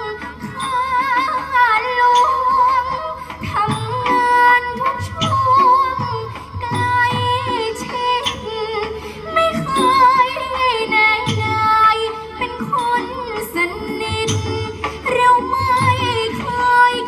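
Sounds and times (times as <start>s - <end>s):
instrumental accompaniment: 0.0s - 17.0s
woman singing: 0.0s - 17.0s.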